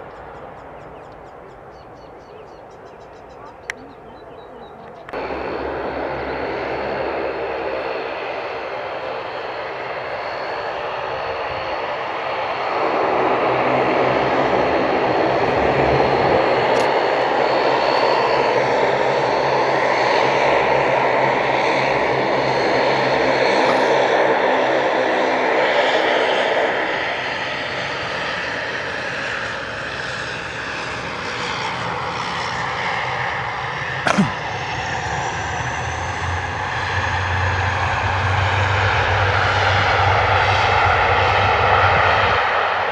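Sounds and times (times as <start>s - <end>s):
aircraft engines humming: 0.0s - 42.9s.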